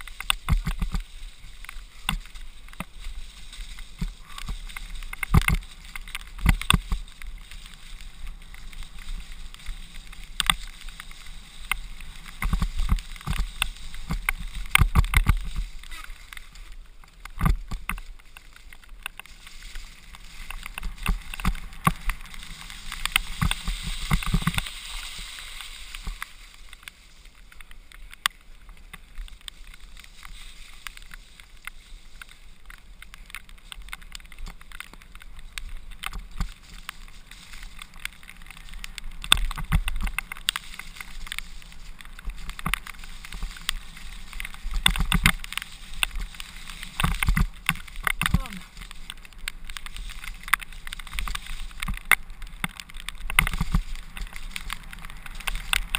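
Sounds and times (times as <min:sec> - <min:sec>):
bike rattling over bumps: 0:00.0 - 0:55.9
bike tyres on wet dirt: 0:00.0 - 0:55.9.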